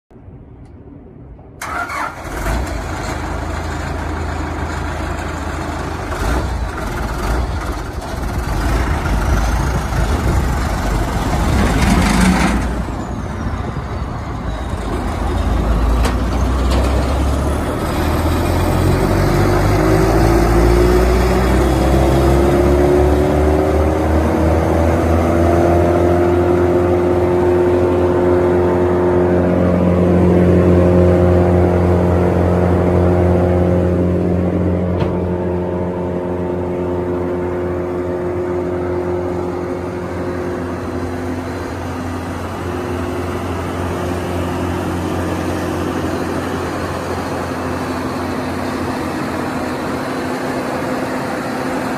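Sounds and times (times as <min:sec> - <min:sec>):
drum chipper engine running: 0:02.6 - 0:51.9
chipper drum whine: 0:03.1 - 0:51.9.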